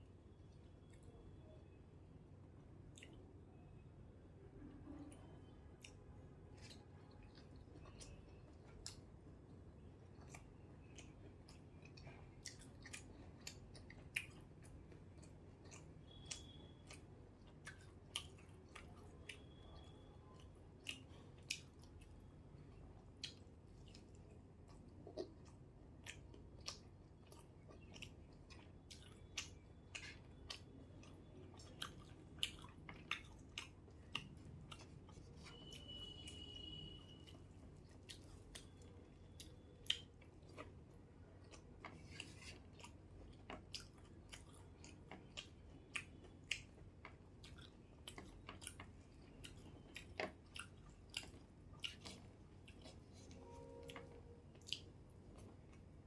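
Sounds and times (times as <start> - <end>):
person chewing food: 2.8 - 3.3, 4.8 - 56.0.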